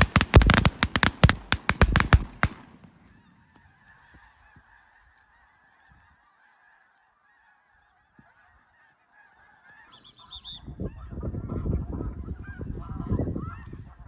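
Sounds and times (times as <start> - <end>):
geese honking: 0.1 - 14.0.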